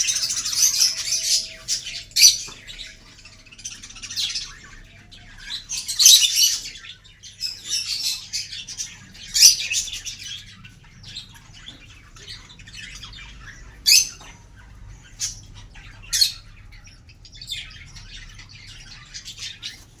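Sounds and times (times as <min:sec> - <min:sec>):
parrots chattering and squawking: 0:00.0 - 0:20.0.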